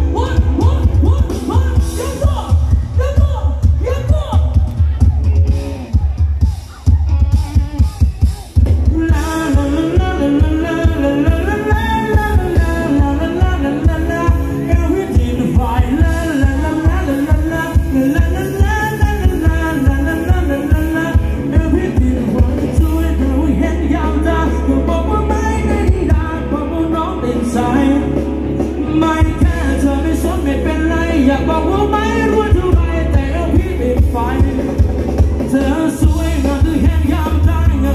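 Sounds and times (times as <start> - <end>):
steady drum beat: 0.0 - 26.4, 32.3 - 37.9
person singing: 0.0 - 37.9
pulsing bass: 0.0 - 37.9.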